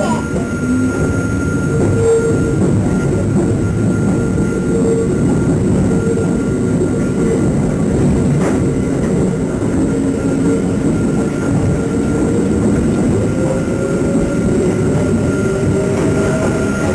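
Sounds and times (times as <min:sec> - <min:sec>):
thin steady whine: 0:00.0 - 0:16.9
train rumbling along track: 0:00.0 - 0:16.9.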